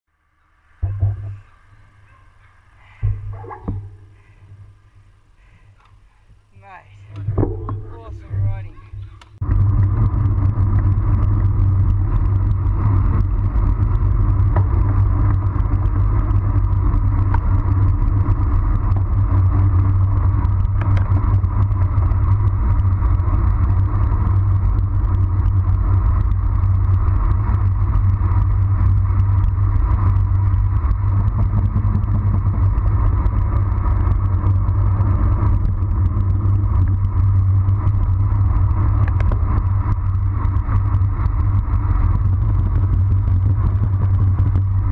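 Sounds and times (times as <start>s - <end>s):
wind buffeting microphone: 2.9s - 44.9s.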